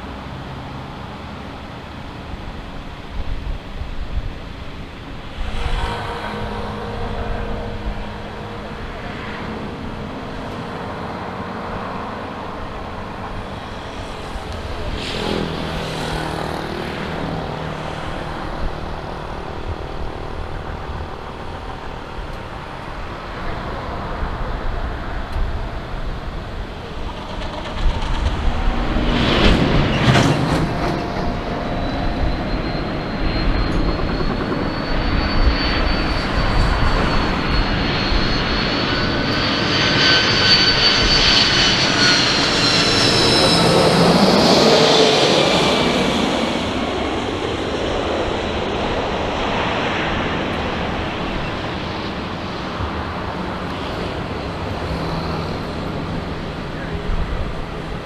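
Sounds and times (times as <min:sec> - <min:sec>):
high whine of engines spooling up: 0:00.0 - 0:58.0
jet engines droning: 0:00.0 - 0:58.0.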